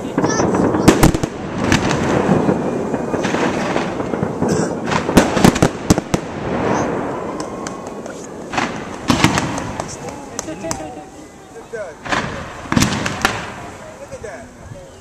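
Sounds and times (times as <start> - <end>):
fireworks bangs and crackles: 0.0 - 15.0
fireworks rumble: 0.0 - 15.0.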